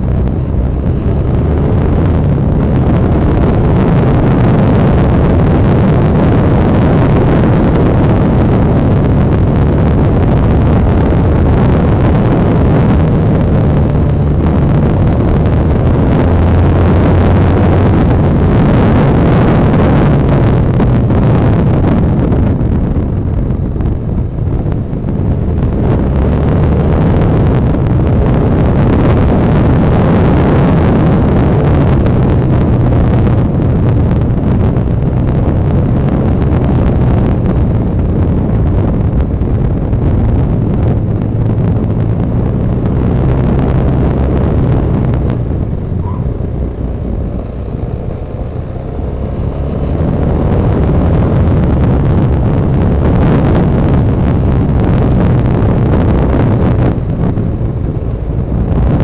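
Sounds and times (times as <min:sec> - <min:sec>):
motorcycle engine running: 0:00.0 - 0:59.0
wind over microphone: 0:00.0 - 0:59.0.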